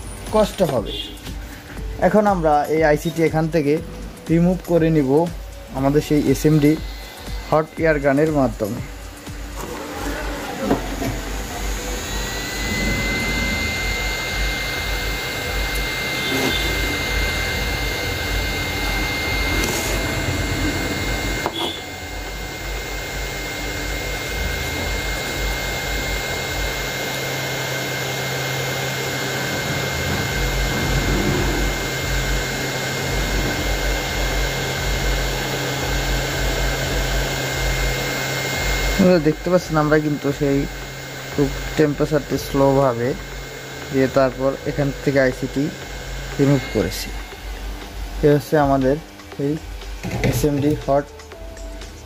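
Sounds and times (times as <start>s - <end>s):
high whine: 0.0s - 52.0s
hot air gun blowing: 5.3s - 51.0s.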